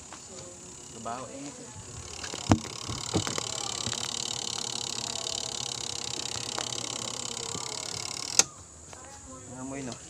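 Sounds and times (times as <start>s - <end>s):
spin-dryer motor whirring hum: 0.0s - 8.5s.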